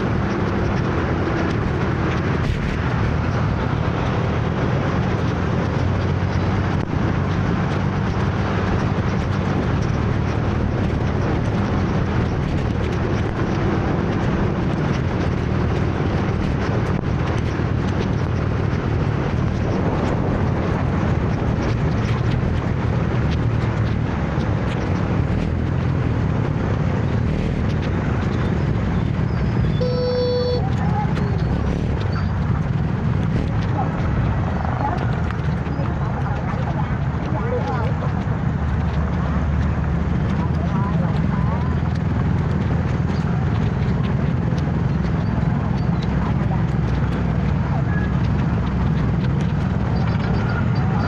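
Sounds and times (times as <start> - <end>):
motor scooter engine rumble: 0.0 - 51.0
road and traffic noise: 0.0 - 51.0.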